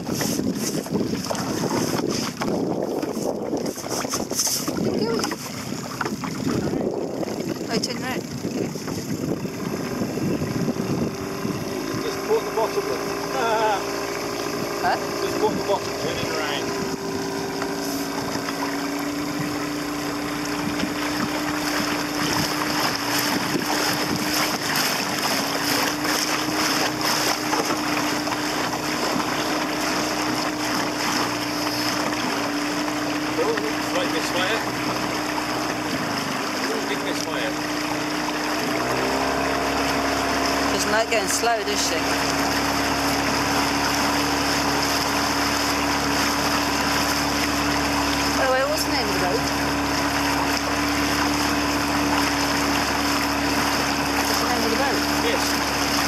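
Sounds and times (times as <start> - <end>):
outboard motor running: 0.0 - 56.0
water rushing past hull: 0.0 - 56.0
wind buffeting microphone: 0.0 - 56.0.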